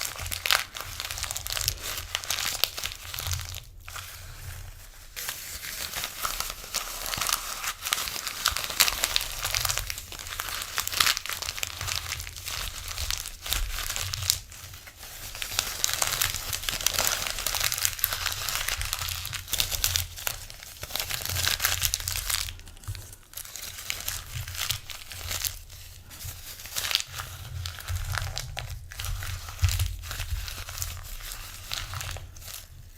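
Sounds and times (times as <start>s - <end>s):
paper tearing and crinkling: 0.0s - 32.9s.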